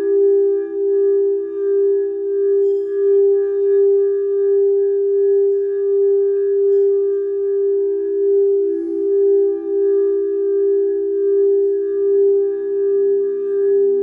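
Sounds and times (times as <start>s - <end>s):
singing bowl tone: 0.0s - 14.0s.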